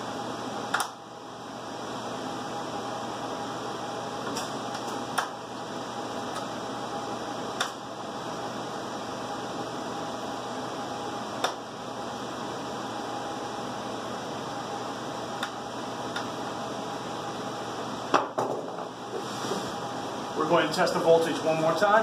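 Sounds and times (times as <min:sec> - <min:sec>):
fan-like equipment hum: 0:00.0 - 0:22.0.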